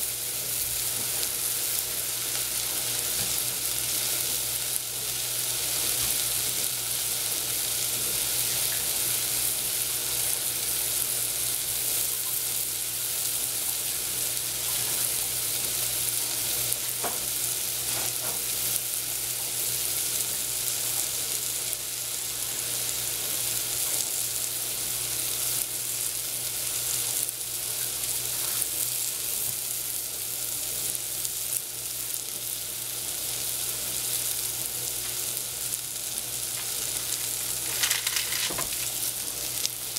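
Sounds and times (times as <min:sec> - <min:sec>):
mushrooms sizzling in a saucepan: 0:00.0 - 0:39.9.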